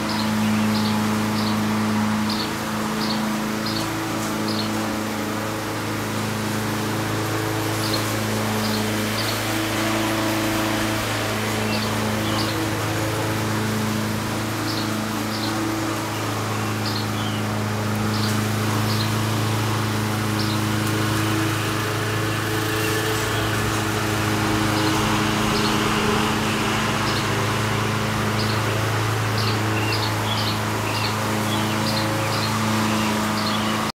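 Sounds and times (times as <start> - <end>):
lawn mower engine humming: 0.0 - 33.9
road traffic noise: 0.0 - 33.9.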